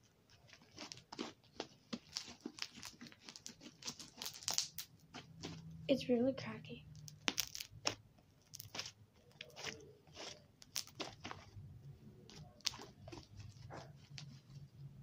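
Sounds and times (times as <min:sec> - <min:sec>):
crunchy slime crackling: 0:00.3 - 0:14.7.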